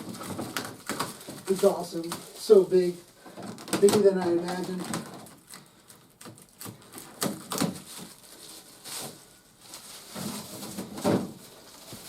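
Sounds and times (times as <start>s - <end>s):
plastic toy parts and packaging rustling: 0.0s - 12.0s.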